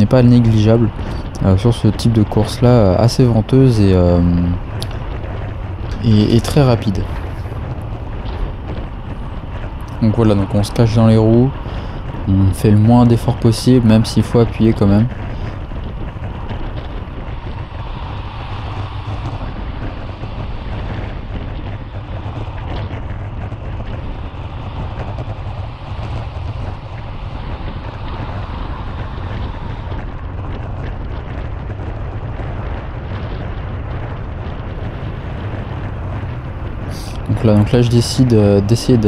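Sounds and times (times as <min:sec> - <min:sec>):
low rumble of bike riding: 0:00.0 - 0:39.0
wind rush: 0:00.0 - 0:39.0.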